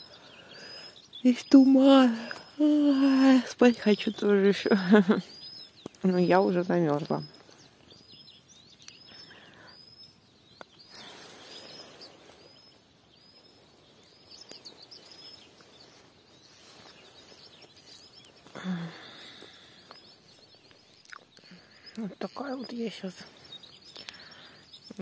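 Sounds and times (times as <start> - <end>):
faint outdoor hiss: 0.0 - 25.0
small birds chirping: 0.0 - 25.0.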